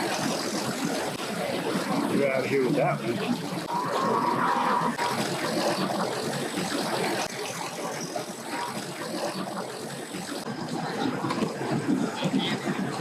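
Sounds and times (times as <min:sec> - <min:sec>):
boat and vehicle engines: 0:00.0 - 0:13.0.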